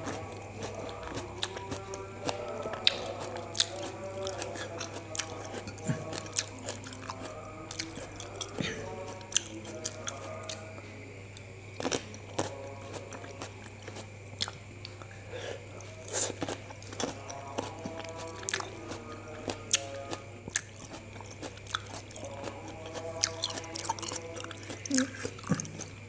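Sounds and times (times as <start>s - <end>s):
person chewing grapes: 0.0s - 26.0s.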